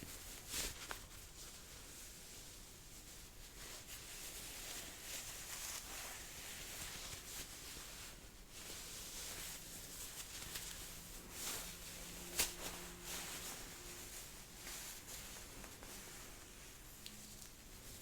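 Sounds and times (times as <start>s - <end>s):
fabric rustling: 0.1s - 18.0s.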